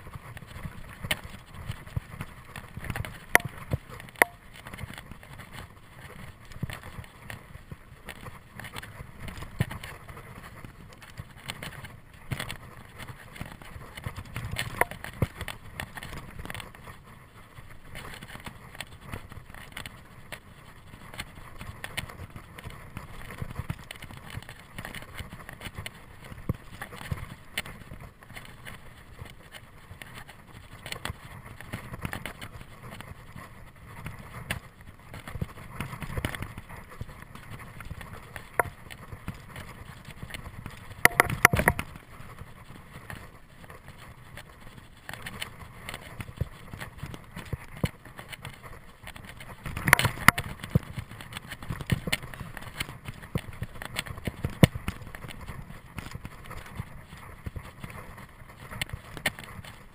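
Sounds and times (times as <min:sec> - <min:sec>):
bike rattling and clicking: 0:00.0 - 0:59.9
bike tyres on dirt: 0:00.0 - 0:59.9.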